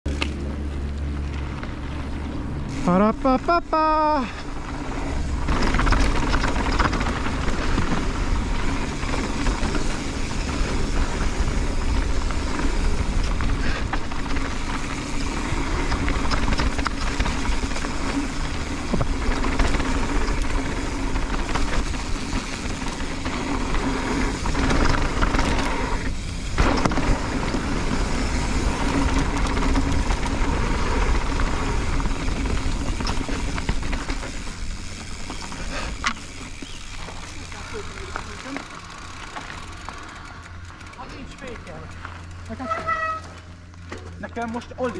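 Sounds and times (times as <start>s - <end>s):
bike knocking and rattling: 0.1s - 44.9s
tyres on loose dirt: 0.1s - 44.9s.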